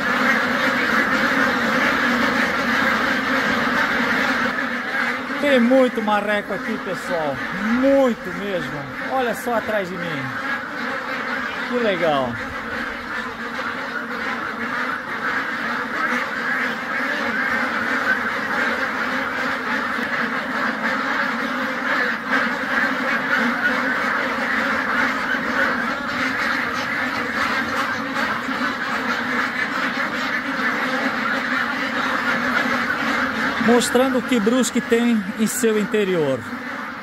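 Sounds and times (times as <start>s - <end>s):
flock of ducks quacking: 0.0s - 37.0s.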